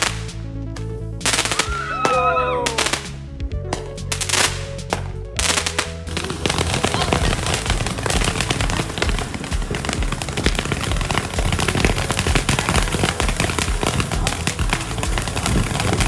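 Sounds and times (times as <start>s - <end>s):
fireworks crackling and popping: 0.0s - 0.4s, 1.2s - 16.0s
music playing: 0.0s - 16.0s.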